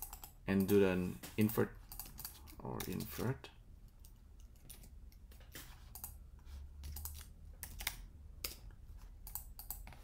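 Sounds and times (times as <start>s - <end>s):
keyboard typing: 0.0s - 0.8s, 1.4s - 3.3s, 4.0s - 6.2s, 6.8s - 10.0s.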